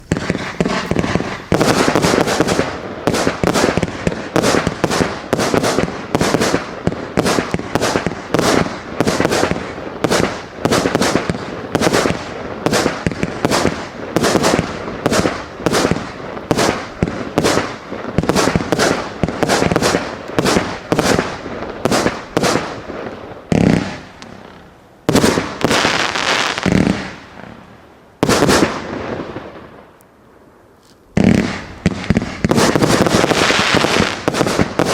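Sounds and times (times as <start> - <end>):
fireworks shots and bursts: 0.0 - 29.9, 31.1 - 34.9.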